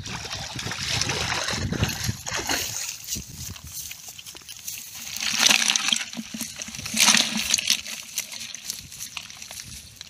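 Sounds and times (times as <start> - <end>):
frogs splashing in muddy water: 0.0 - 3.3, 4.0 - 10.0.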